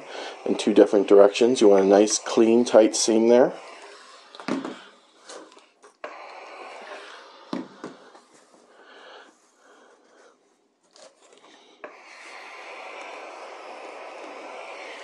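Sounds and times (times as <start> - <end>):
steam iron hissing: 0.0 - 9.3, 11.7 - 15.0.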